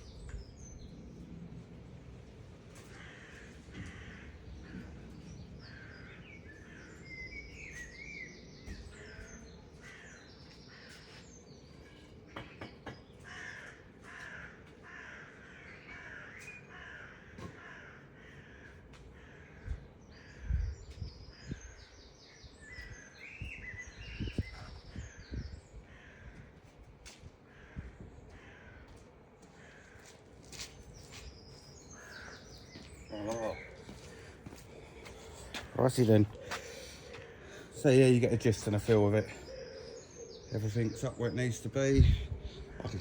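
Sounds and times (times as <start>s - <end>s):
birds calling harshly: 2.6s - 43.0s.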